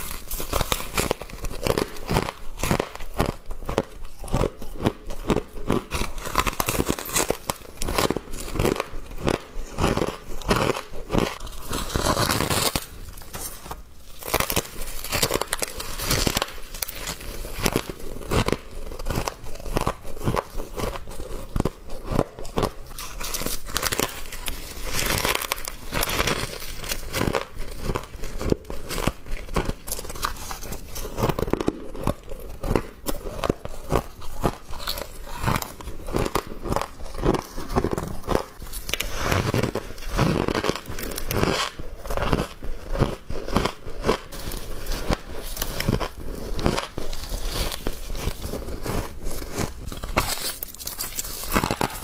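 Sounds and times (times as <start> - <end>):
person chewing crunchy frost: 0.0 - 52.0.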